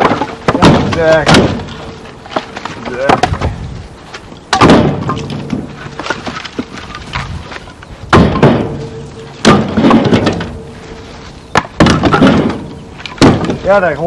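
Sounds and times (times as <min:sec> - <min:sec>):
firewood knocking on pile: 0:00.0 - 0:10.8, 0:11.5 - 0:14.0.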